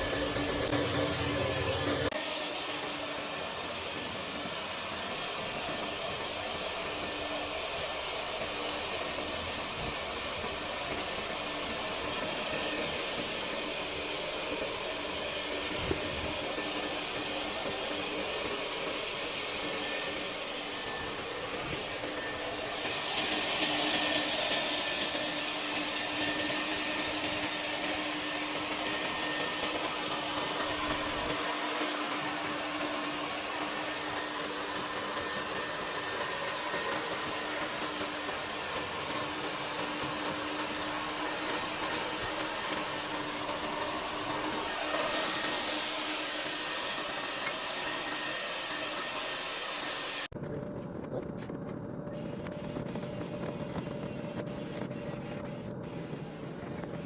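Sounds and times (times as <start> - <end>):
vacuum motor humming: 0.0 - 57.0.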